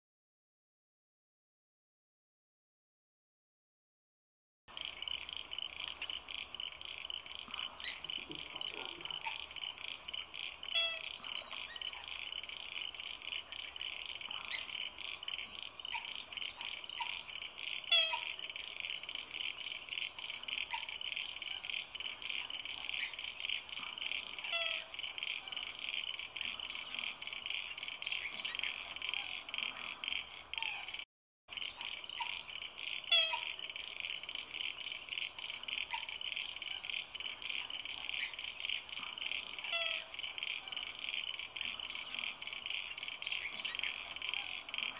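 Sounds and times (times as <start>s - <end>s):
frog chorus trilling: 4.7s - 44.9s.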